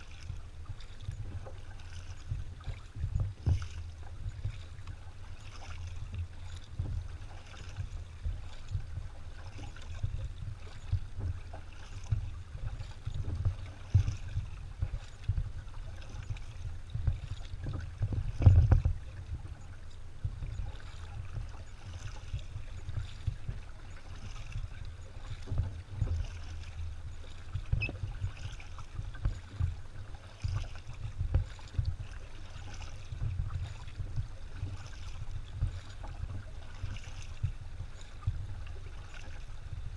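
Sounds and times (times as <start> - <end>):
kayak paddle splashing: 0.0 - 39.9
low microphone rumble: 0.0 - 39.9.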